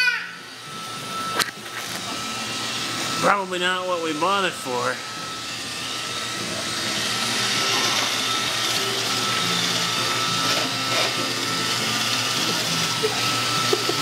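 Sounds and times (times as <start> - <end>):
robot vacuum whirring: 0.0 - 14.0.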